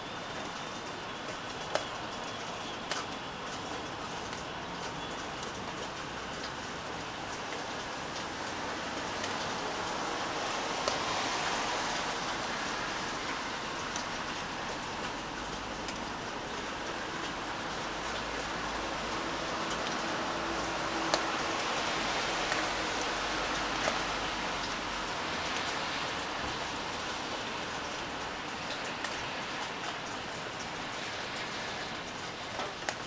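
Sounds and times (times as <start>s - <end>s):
steady rain falling: 0.0s - 33.0s
raindrops ticking: 0.1s - 33.0s.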